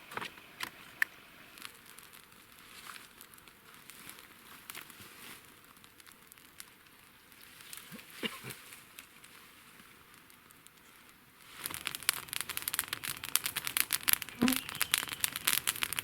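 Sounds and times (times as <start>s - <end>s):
crinkling and crackling plastic: 0.0s - 16.0s.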